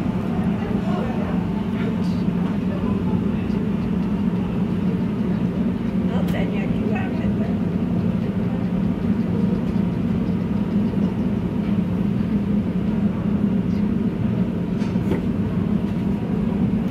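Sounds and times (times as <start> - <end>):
machine humming: 0.0 - 16.9.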